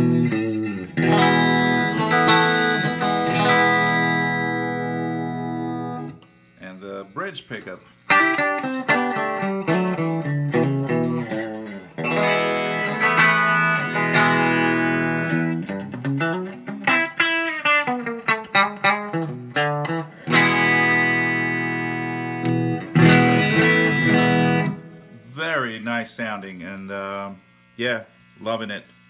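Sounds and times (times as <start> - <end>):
electric guitar playing: 0.0 - 27.3.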